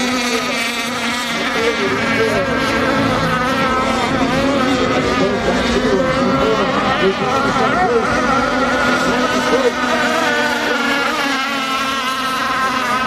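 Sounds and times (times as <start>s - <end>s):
model boat motors whining: 0.0s - 13.0s.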